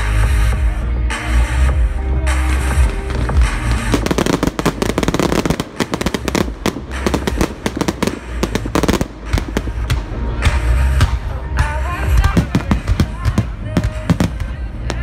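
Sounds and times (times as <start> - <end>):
fireworks bangs and crackles: 1.8 - 15.0.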